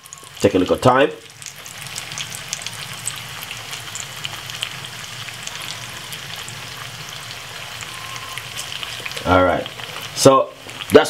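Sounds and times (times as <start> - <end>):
plantain sizzling in oil: 0.0 - 11.0.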